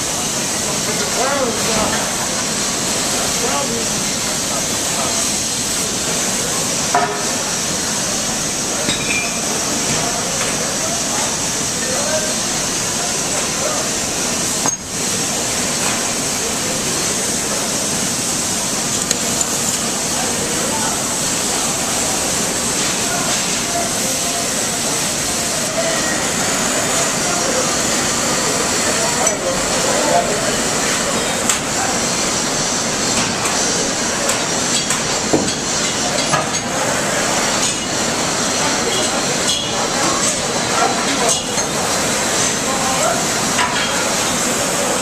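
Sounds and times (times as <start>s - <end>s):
welding arc crackling hiss: 0.0s - 45.0s.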